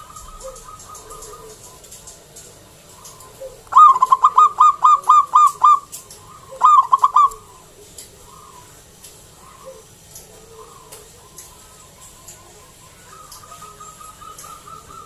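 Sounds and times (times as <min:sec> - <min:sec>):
dove cooing song: 0:00.0 - 0:15.0.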